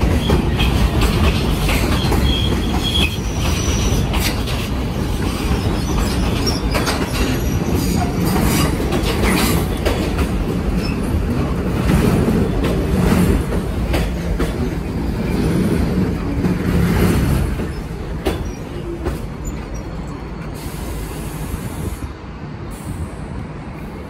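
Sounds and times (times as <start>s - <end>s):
subway train wheels clacking: 0.0s - 24.0s.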